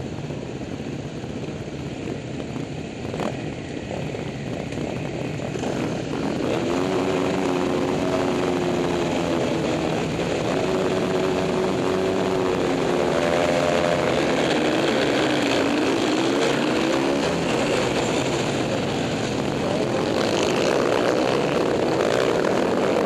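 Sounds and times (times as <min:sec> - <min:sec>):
other motorcycle engines: 0:00.0 - 0:23.0
motorcycle engine accelerating hard: 0:00.8 - 0:23.0.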